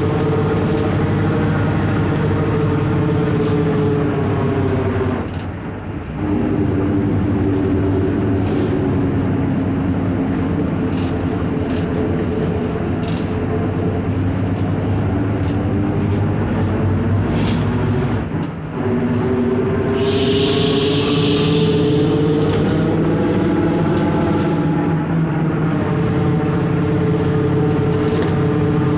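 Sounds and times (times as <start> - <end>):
bus drivetrain droning: 0.0 - 28.9.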